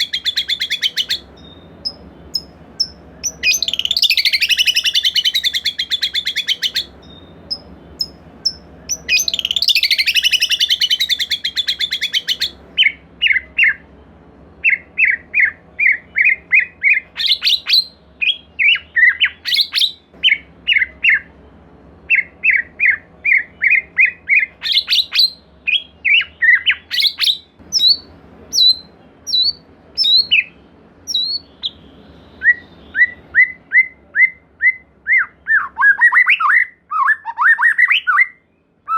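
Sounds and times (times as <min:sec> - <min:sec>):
bird whistled song notes: 0:00.0 - 0:13.9, 0:14.6 - 0:38.9.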